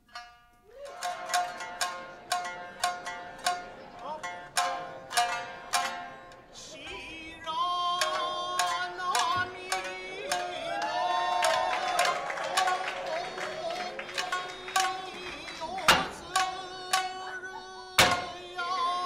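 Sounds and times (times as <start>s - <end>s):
plucked shamisen notes: 0.0s - 19.0s.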